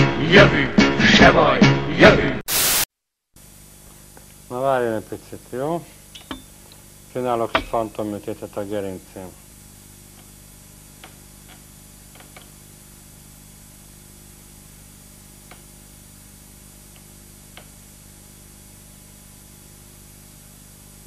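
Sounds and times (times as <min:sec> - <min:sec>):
recording hiss and hum: 0:02.4 - 0:21.0.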